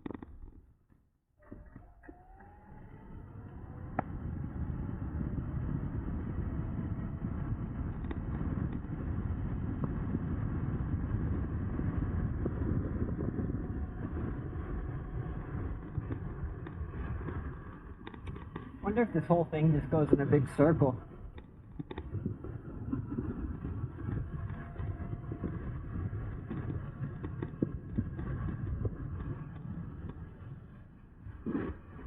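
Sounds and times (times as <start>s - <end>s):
electric motor whine: 1.4s - 32.0s
road noise: 1.7s - 32.0s
wind rushing over microphone: 2.3s - 32.0s.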